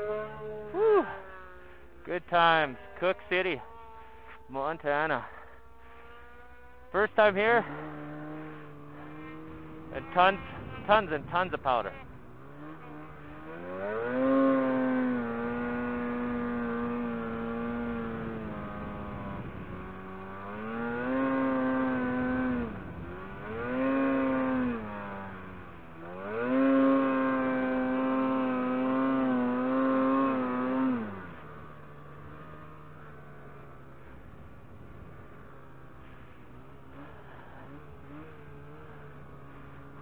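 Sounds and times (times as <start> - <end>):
snowmobile engine revving: 0.0 - 40.0.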